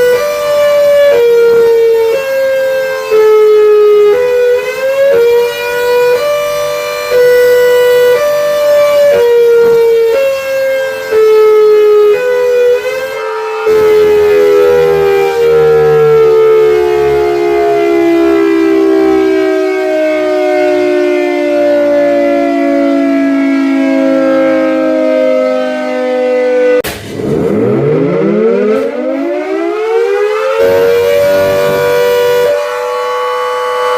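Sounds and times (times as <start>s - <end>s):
air raid siren: 0.0s - 33.9s.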